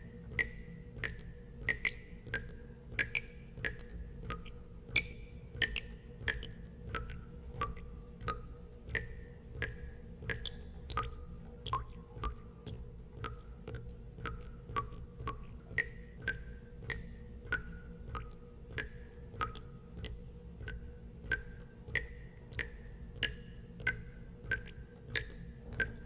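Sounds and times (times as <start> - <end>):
low steady hum: 0.0 - 26.0
water drops plinking into water: 0.0 - 26.0.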